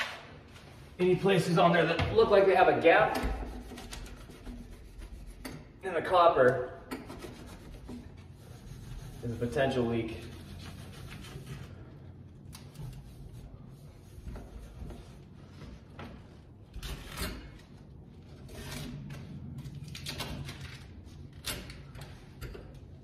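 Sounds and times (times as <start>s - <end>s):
cloth rubbing over copper pipes: 0.0s - 6.3s, 7.0s - 19.6s.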